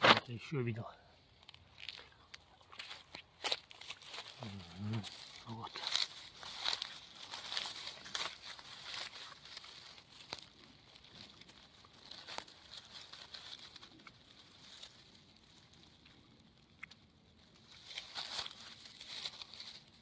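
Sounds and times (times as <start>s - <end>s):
rustling of dry grass and leaves: 0.0s - 20.0s.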